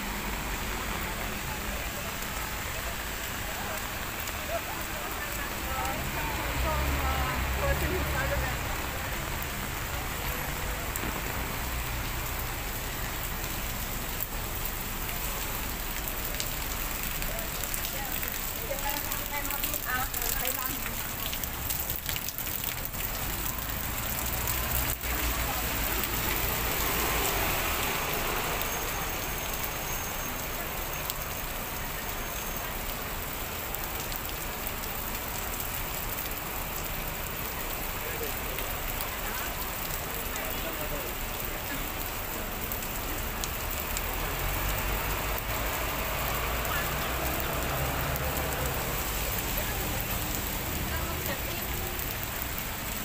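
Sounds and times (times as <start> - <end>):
rain falling on wet ground: 0.0 - 53.0.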